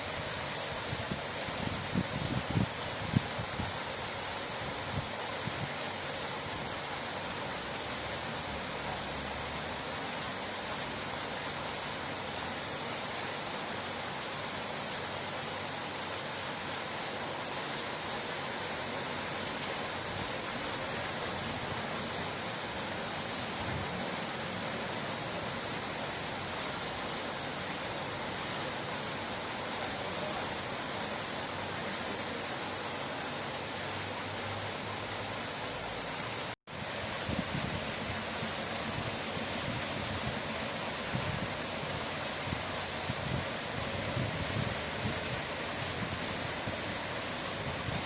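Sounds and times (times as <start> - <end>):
water rushing: 0.0 - 48.0.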